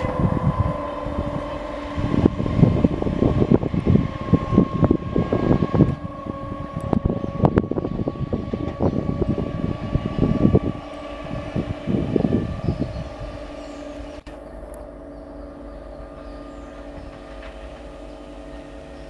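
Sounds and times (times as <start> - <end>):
train humming with held tones: 0.0 - 19.0
train rumbling: 0.0 - 19.0.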